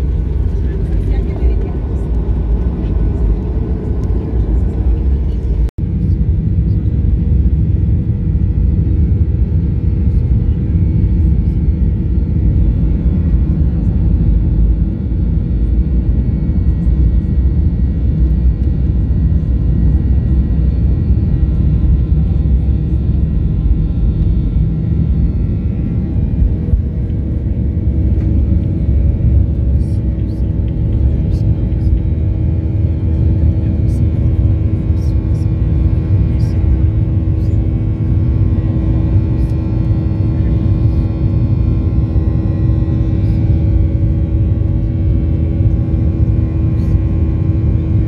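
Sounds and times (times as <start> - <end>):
jet engine whine: 0.0 - 48.0
jet engines rumbling: 0.0 - 48.0.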